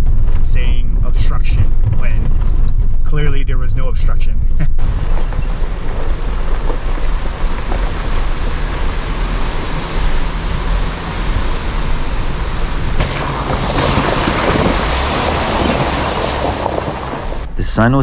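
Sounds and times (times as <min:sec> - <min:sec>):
engine and tyre rumble: 0:00.0 - 0:17.6.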